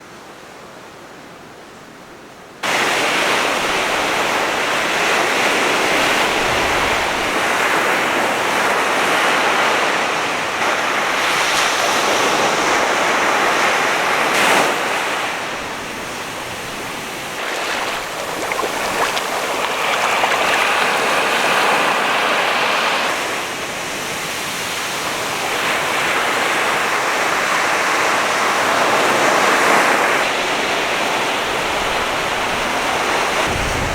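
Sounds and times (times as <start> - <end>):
waves breaking: 2.6 - 33.9.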